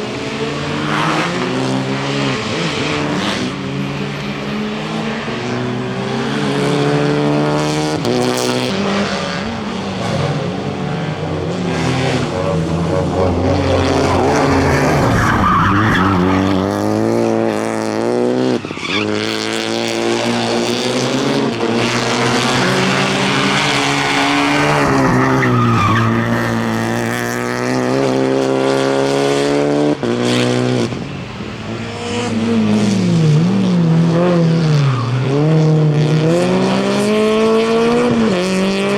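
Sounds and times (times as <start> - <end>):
tyres skidding and squealing: 0.0 - 29.0, 30.1 - 38.9
rally car engine revving: 0.0 - 38.9.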